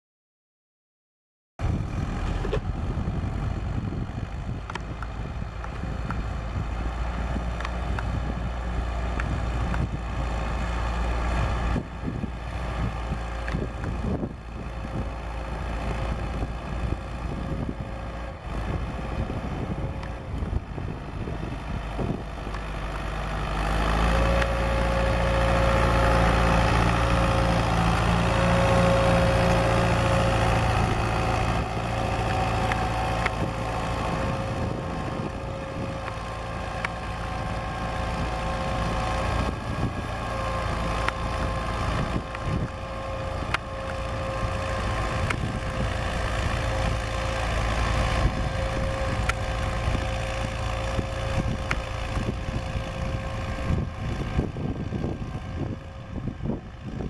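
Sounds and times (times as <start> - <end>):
tractor engine running under load: 1.6 - 57.0.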